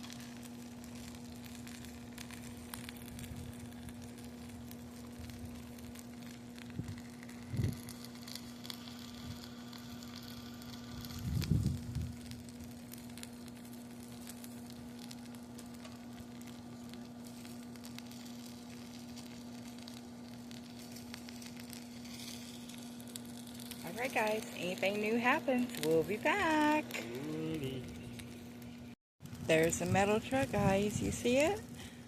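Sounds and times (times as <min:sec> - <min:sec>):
fire crackling and popping: 0:00.0 - 0:32.0
low hum: 0:00.0 - 0:32.0.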